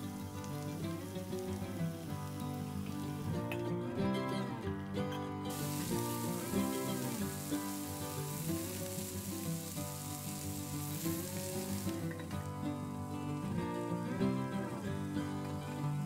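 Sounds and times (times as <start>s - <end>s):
vegetables sizzling in oil: 0.0s - 3.7s, 5.5s - 16.0s
acoustic guitar music: 0.0s - 16.0s.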